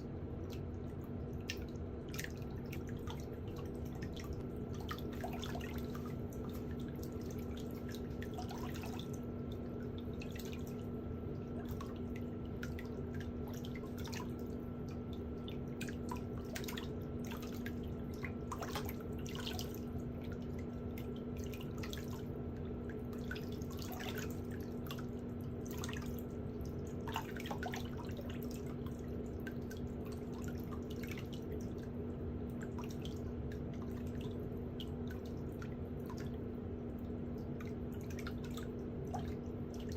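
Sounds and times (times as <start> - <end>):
steady low hum: 0.0 - 39.9
water dripping and splashing: 0.4 - 39.9.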